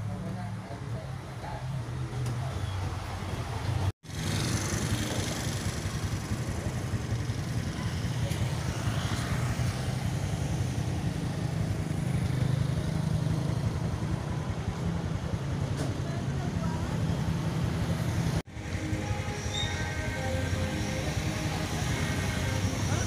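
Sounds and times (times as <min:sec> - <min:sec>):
car engines passing: 0:00.0 - 0:23.0
motorbike engines passing: 0:00.0 - 0:23.0
road noise: 0:00.0 - 0:23.0.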